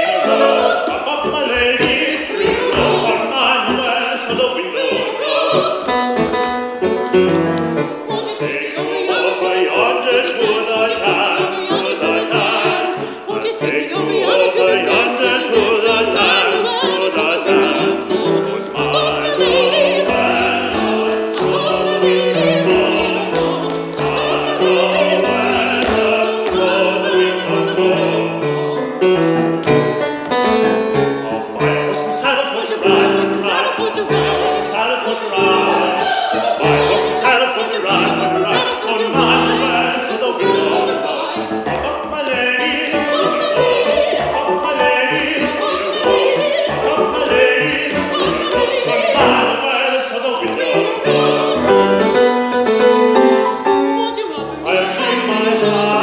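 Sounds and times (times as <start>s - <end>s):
piano accompaniment: 0.0s - 56.0s
soprano and baritone singing duet: 0.0s - 56.0s.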